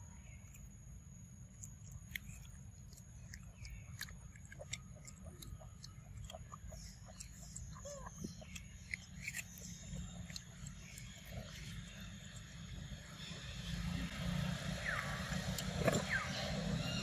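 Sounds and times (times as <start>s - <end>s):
monkey chewing fruit: 1.4s - 17.0s.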